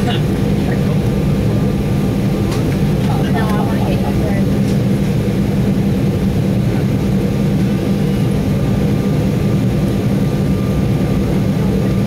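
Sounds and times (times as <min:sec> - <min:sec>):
airliner cabin rumble: 0:00.0 - 0:12.0
faint engine whine: 0:00.0 - 0:12.0.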